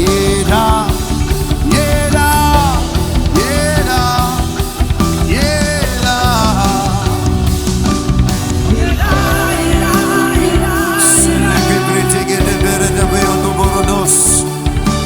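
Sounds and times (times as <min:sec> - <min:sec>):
worship music from full band: 0:00.0 - 0:15.0.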